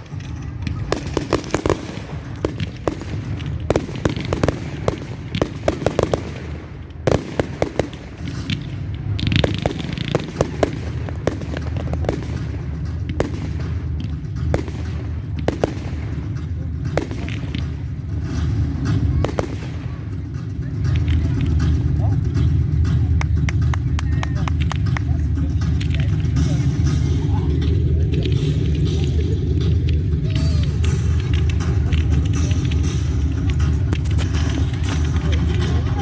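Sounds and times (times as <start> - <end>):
fireworks cracking and banging: 0.0 - 36.0
steady low rumble: 0.0 - 36.0.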